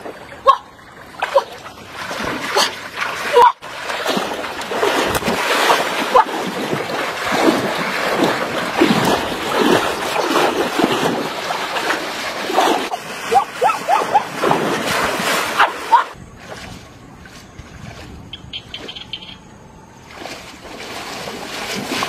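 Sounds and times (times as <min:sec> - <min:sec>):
person wading through water: 0:00.0 - 0:18.9, 0:19.8 - 0:22.0
river water churning: 0:00.0 - 0:22.0
goose flapping on water: 0:01.2 - 0:19.0, 0:20.1 - 0:22.0.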